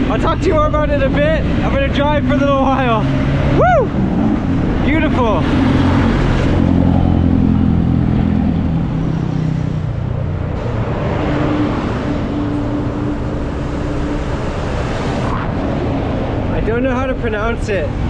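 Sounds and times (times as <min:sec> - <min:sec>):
engine hum: 0:00.0 - 0:18.0
road noise: 0:00.0 - 0:18.0.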